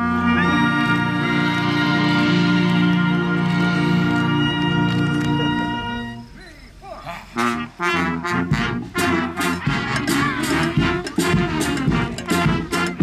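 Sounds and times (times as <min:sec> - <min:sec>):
brass band playing: 0:00.0 - 0:06.4, 0:07.3 - 0:13.0.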